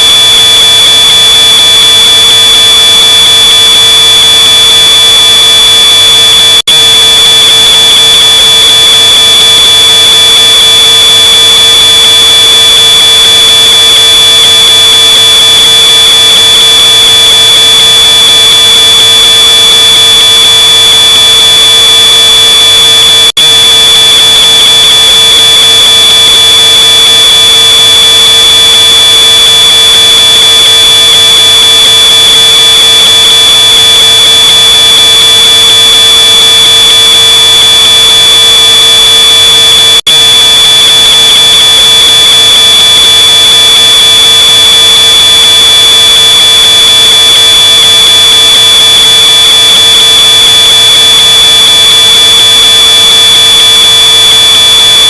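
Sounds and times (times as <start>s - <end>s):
distorted smoke alarm tone: 0.0s - 55.0s.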